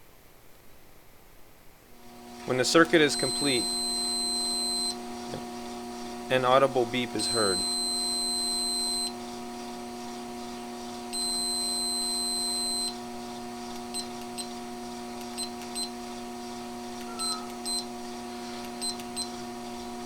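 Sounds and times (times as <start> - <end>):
multimeter beeping: 2.5 - 20.0.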